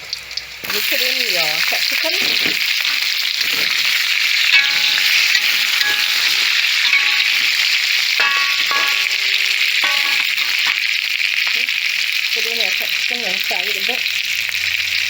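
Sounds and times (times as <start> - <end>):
sausages sizzling in pan: 0.0 - 15.0.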